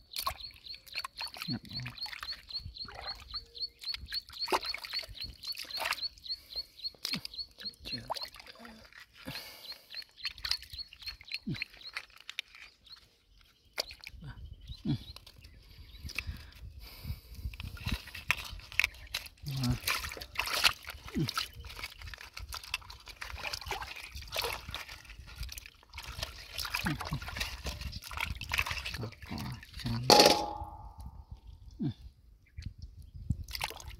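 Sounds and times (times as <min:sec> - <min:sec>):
water splashing and squelching: 0:00.0 - 0:31.1, 0:32.6 - 0:33.9.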